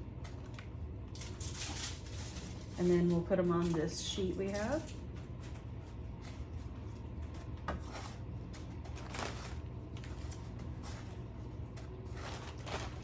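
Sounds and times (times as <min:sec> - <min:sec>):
steady low hum: 0:00.0 - 0:13.0
scraping and rustling in breadcrumbs: 0:01.1 - 0:13.0.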